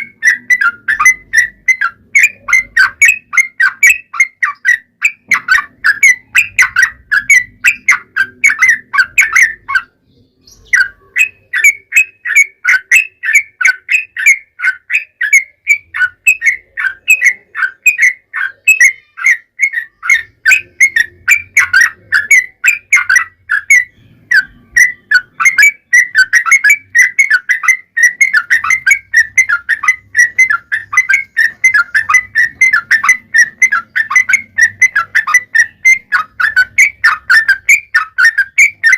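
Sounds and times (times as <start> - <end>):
bird singing rapid whistled chirps: 0.0 - 38.9.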